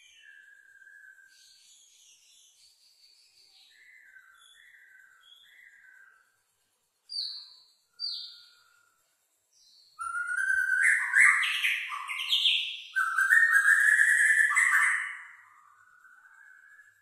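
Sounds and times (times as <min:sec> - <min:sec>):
bird calls: 0:00.0 - 0:06.5, 0:09.7 - 0:17.0
bird song of whistled phrases: 0:00.0 - 0:06.5, 0:07.1 - 0:08.9, 0:09.6 - 0:17.0.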